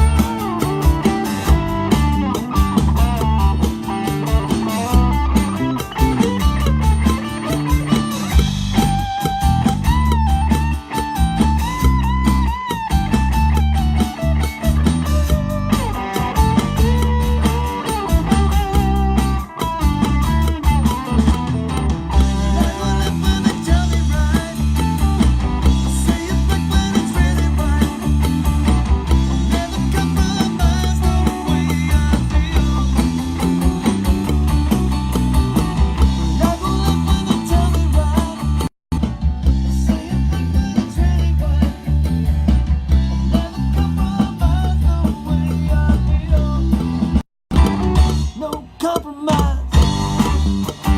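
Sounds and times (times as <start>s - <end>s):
bass line: 0.0s - 48.6s, 49.3s - 50.9s
distorted electric guitar: 0.0s - 50.9s
steady drum beat: 0.0s - 50.9s.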